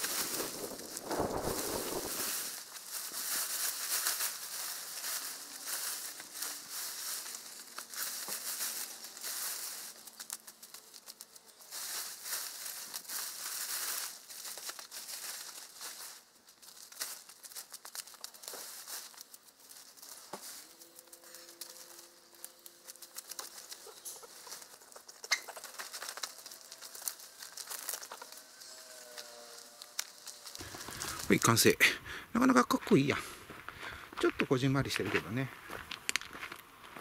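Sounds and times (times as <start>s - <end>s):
tent fabric rustling and crinkling: 0.0s - 31.8s.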